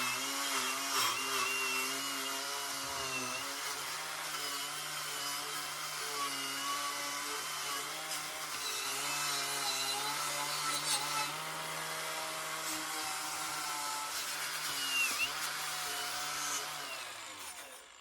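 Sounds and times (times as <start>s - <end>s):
power tool cleaning rust: 0.0s - 18.0s.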